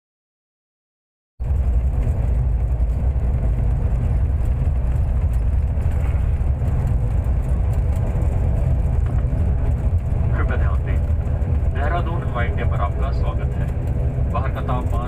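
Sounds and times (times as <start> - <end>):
turboprop engine rumble: 1.4 - 15.0.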